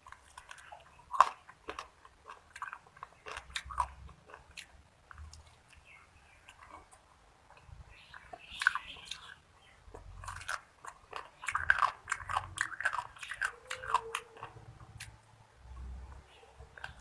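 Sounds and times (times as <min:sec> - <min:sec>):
biting and chewing food: 0:00.0 - 0:17.0
crunchy mouth clicks: 0:00.0 - 0:17.0.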